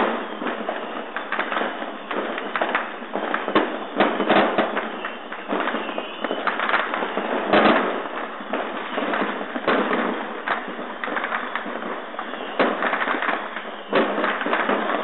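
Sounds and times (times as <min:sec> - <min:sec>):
firecrackers crackling and banging: 0:00.0 - 0:15.0
firework whistle: 0:00.0 - 0:15.0.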